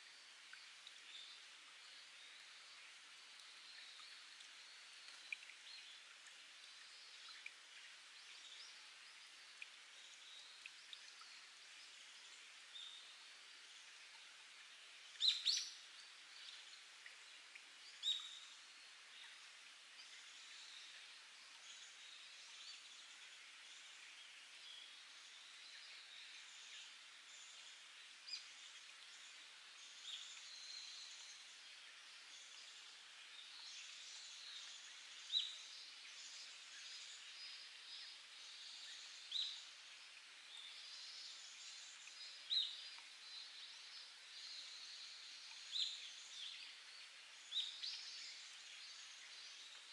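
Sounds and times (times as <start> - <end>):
water trickling over rock: 0.0 - 49.9.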